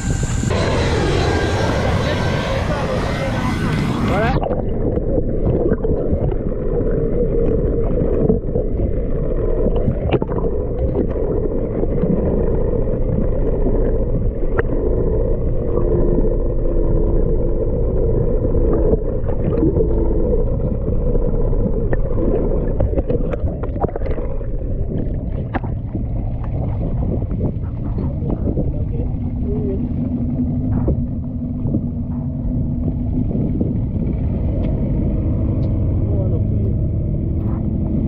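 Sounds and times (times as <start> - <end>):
low hum: 0.0 - 38.0
muffled underwater rushing: 0.0 - 38.0.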